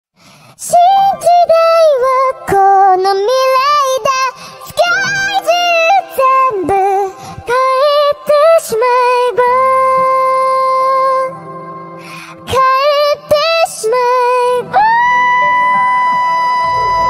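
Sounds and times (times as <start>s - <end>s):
woman singing pop melody: 0.6s - 17.0s.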